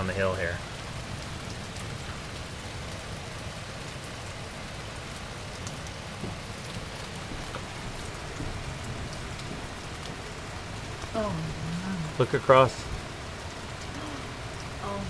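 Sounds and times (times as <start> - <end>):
heavy rain: 0.0 - 15.0
raindrops hitting nearby: 0.0 - 15.0.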